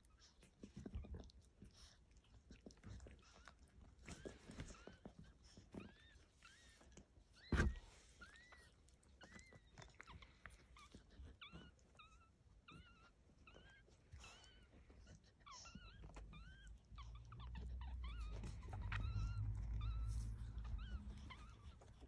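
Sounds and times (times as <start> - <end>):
puppies squeaking: 3.0 - 22.0.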